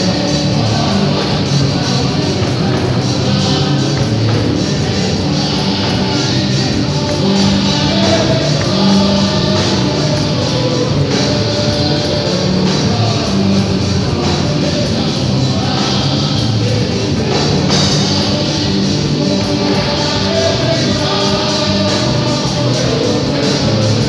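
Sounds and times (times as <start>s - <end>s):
drums beating: 0.0s - 24.0s
praise music over loudspeakers: 0.0s - 24.0s.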